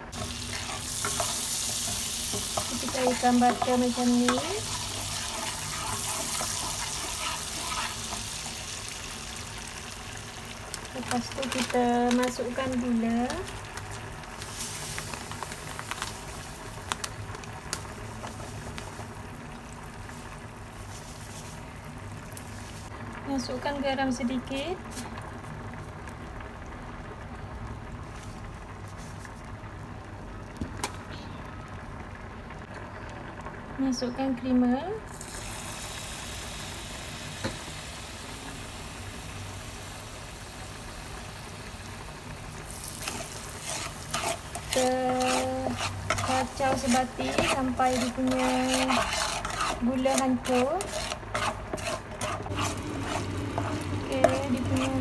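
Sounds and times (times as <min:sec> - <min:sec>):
butter sizzling in a pan: 0:00.0 - 0:26.1, 0:35.1 - 0:55.0.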